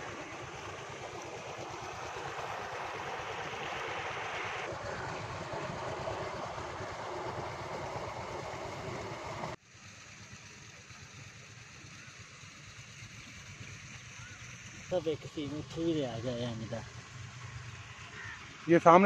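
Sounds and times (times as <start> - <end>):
low pump engine throb: 0.0 - 18.7
water rushing along a channel: 0.0 - 19.0.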